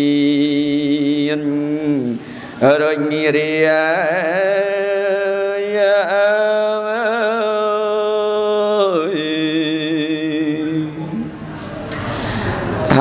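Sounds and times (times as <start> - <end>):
man chanting into a microphone: 0.0 - 11.3.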